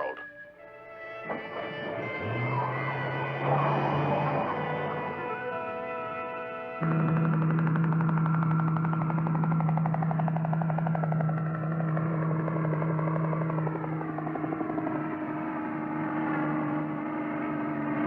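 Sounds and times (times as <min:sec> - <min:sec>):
cartoon engine rattling drone: 0:01.2 - 0:18.0.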